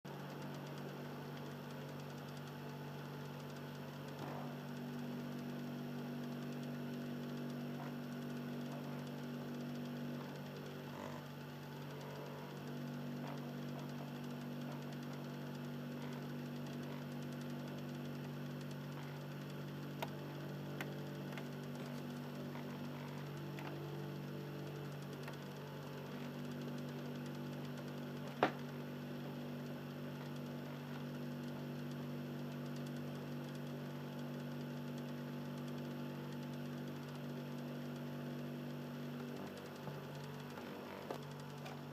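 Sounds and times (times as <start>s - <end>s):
disc drive motor humming: 0.1s - 41.9s
faint clicks: 0.1s - 41.9s.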